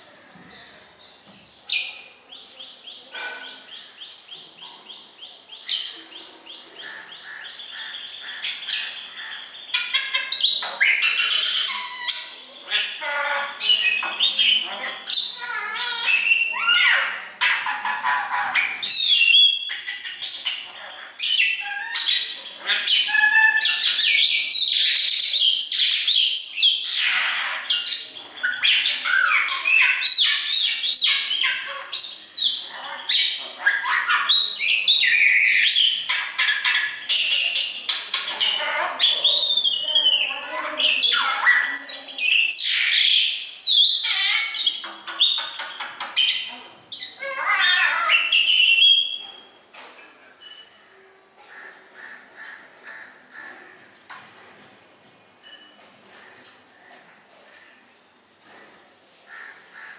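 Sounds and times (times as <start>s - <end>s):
caged birds squawking and chirping: 0.0s - 59.9s.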